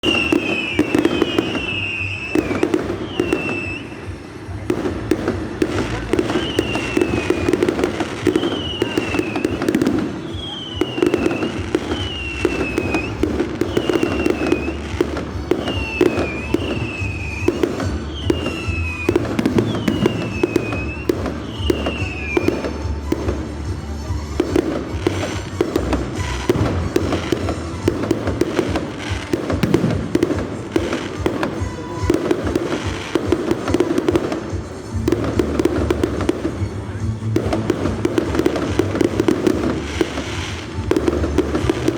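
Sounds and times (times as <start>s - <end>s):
falling firework whistles: 0.0s - 41.9s
fireworks bangs and crackling: 0.0s - 41.9s.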